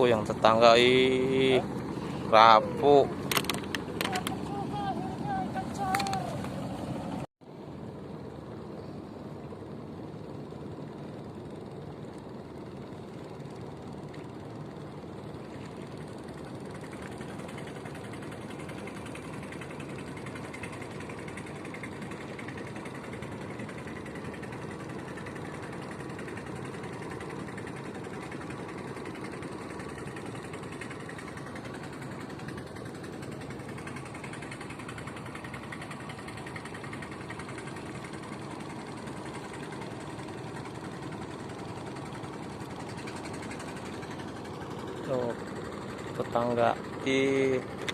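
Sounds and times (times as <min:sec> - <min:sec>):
boat engine humming: 0:00.0 - 0:47.9.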